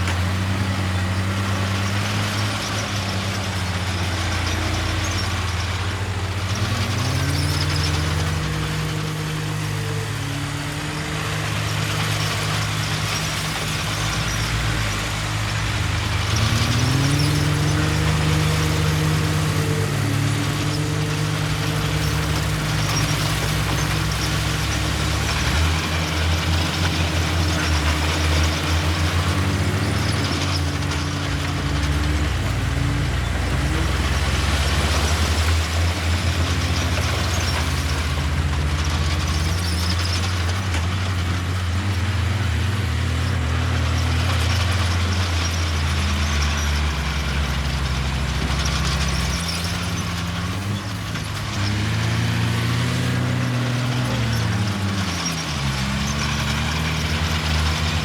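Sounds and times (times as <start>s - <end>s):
heavy diesel engines revving: 0.0s - 58.0s.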